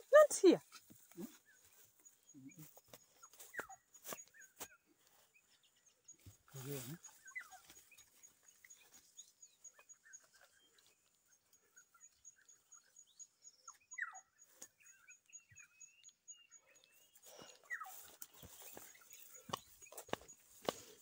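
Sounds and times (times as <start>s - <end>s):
small animals chirping and calling: 0.0s - 21.0s.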